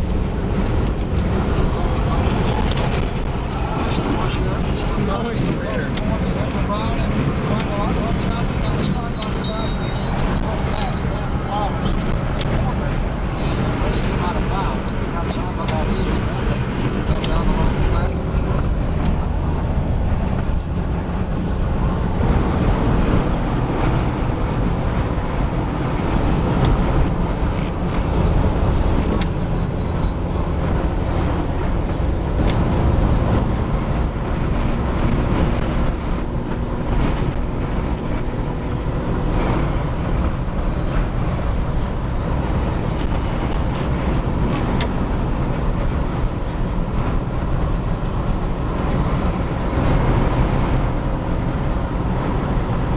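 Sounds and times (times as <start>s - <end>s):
car engine: 0.0s - 52.9s
tyre and road noise: 0.0s - 52.9s
wind against car: 0.0s - 52.9s.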